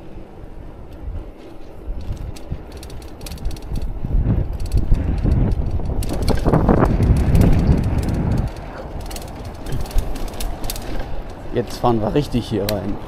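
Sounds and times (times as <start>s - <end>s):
bicycle rolling over cobblestones: 0.0s - 13.0s.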